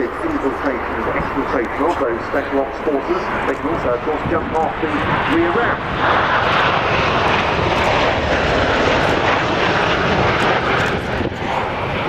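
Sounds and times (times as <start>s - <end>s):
rotor blades pulsing: 0.0s - 12.0s
tiltrotor aircraft overhead: 0.0s - 12.0s.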